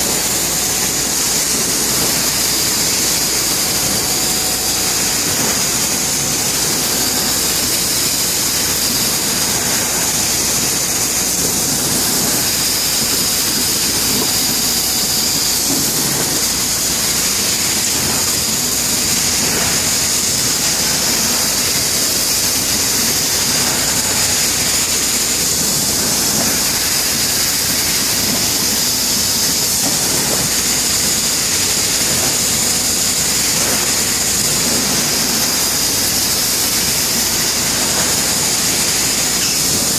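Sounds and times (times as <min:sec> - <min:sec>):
high machine whine: 0:00.0 - 0:39.9
laser cutter hissing: 0:00.0 - 0:39.9.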